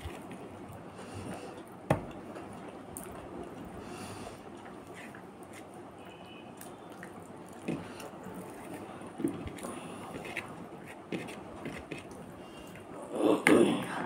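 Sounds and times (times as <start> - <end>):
wet chewing sounds: 0.0 - 13.0.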